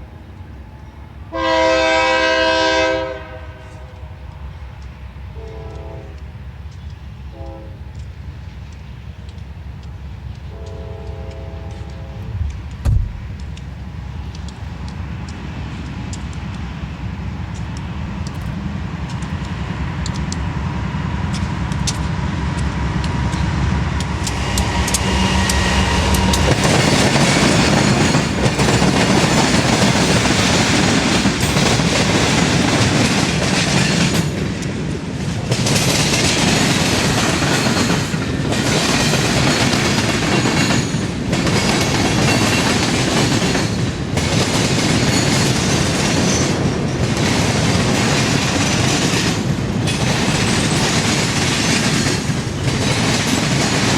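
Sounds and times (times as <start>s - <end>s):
low train rumble: 0.0s - 53.9s
train wheels clattering on rails: 4.0s - 53.9s.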